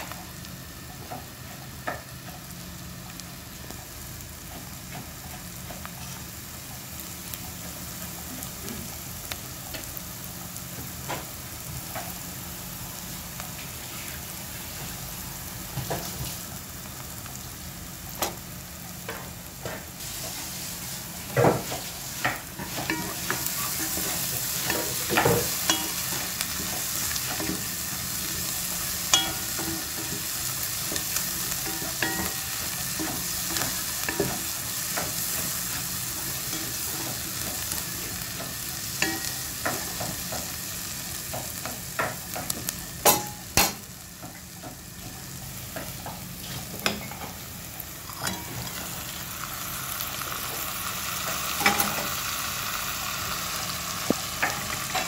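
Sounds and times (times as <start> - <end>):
onion and garlic frying in oil: 0.0 - 55.0.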